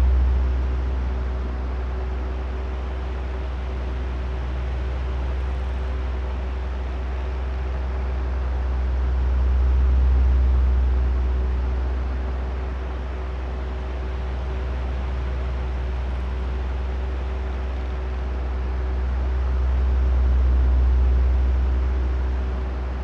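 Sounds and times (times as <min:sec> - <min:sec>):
faint motor hum: 0:00.0 - 0:23.0
oscillating electric fan drone: 0:00.0 - 0:23.0.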